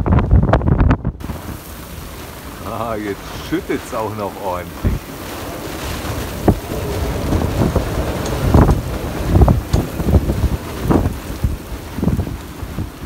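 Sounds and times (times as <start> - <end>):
rain on choppy water: 0.0 - 13.0
wind buffeting microphone: 0.0 - 13.0
wind hiss: 0.0 - 13.0.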